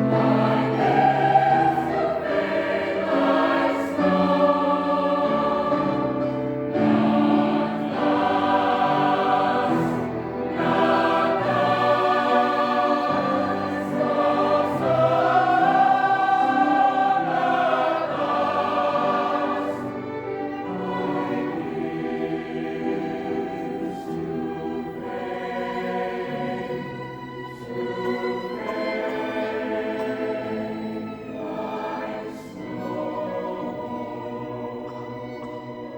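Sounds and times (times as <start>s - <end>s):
choir singing sustained chords: 0.0s - 35.9s.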